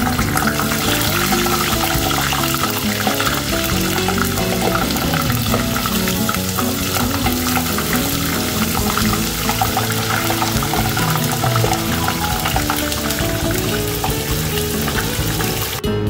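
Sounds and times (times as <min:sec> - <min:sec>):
fish frying in hot oil: 0:00.0 - 0:15.8
background music: 0:00.0 - 0:16.0.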